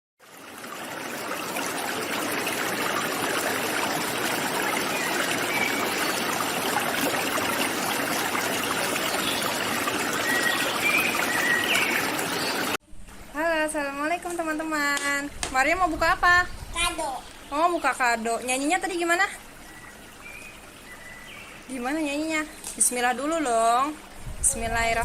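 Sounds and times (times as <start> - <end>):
rushing trickling water: 0.2 - 25.0.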